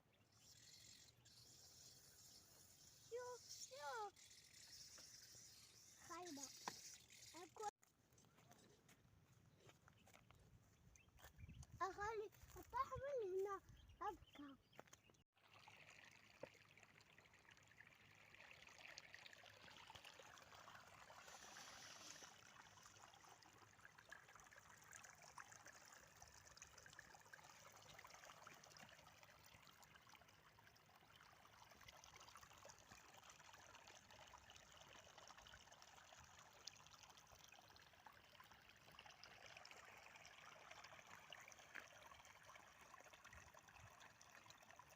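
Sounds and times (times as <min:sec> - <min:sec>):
small stream trickling: 0:00.0 - 0:44.9.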